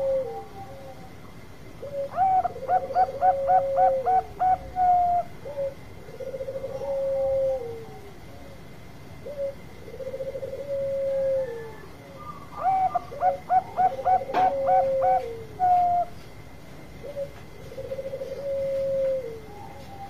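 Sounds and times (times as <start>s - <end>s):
dove cooing: 0.0s - 1.2s, 1.8s - 16.3s, 16.9s - 20.0s.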